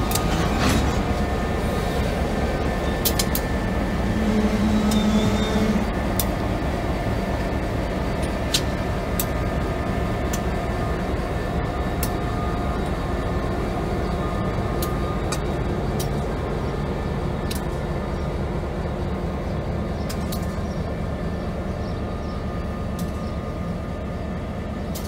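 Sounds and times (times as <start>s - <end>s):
locomotive diesel engine running: 0.0s - 25.0s.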